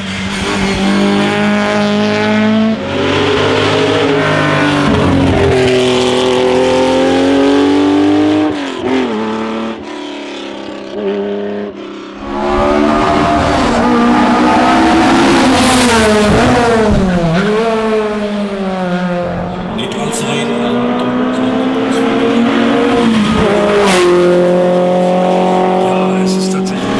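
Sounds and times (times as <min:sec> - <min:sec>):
racing car engine revving: 0:00.0 - 0:11.2, 0:12.2 - 0:26.9.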